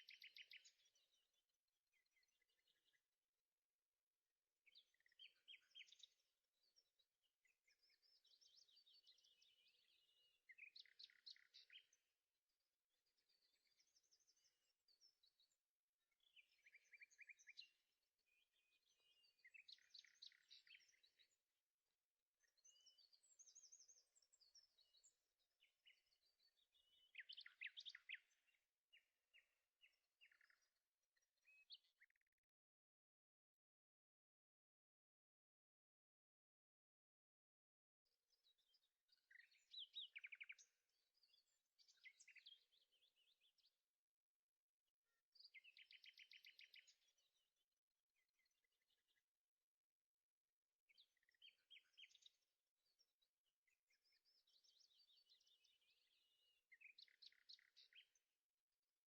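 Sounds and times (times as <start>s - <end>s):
songbird chirping and trilling: 0.0s - 33.0s, 37.4s - 49.7s, 50.7s - 59.0s.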